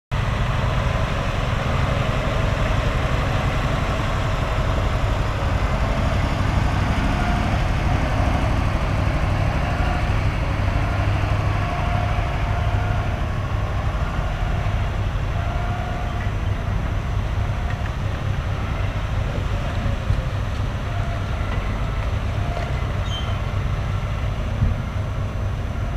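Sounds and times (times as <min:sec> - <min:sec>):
truck engine rumbling: 0:00.1 - 0:25.9.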